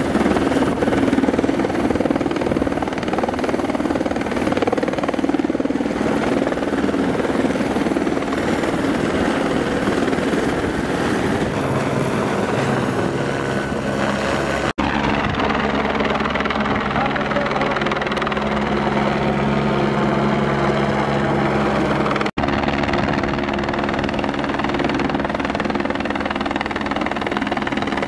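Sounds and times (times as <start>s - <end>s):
helicopter blade chop: 0.0s - 28.0s.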